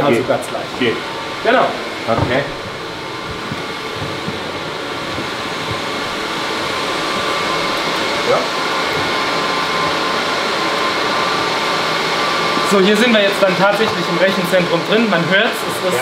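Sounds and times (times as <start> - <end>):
faint whining tones: 0.0 - 14.8
server fans rushing drone: 0.0 - 16.0.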